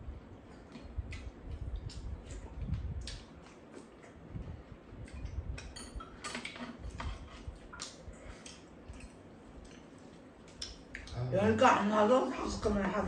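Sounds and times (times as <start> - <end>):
chewing and mouth sounds: 0.4 - 11.3.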